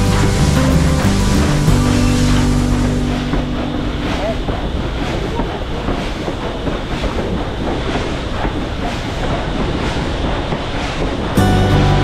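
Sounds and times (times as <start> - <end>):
rhythmic wheel clacks: 0.0 - 12.0
train rumbling on track: 0.0 - 12.0.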